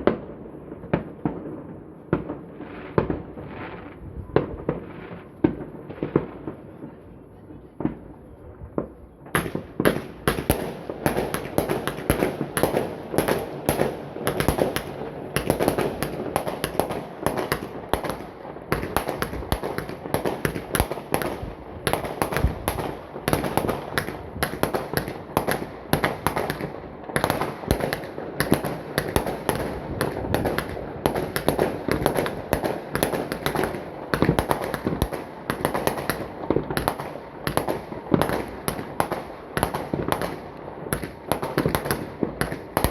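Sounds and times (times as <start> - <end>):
fireworks barrage: 0.0 - 42.9.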